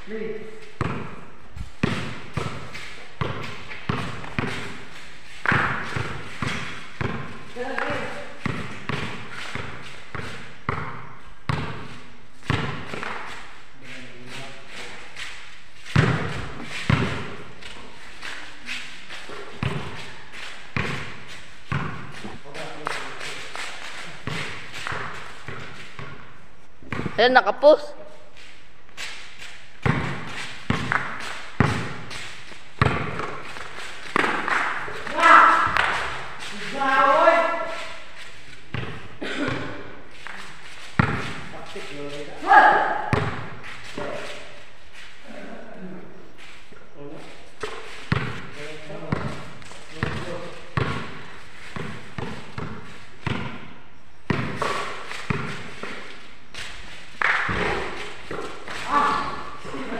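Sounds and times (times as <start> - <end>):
basketball bouncing on concrete: 0.6 - 13.5, 15.8 - 27.4, 29.0 - 44.4, 47.6 - 59.9.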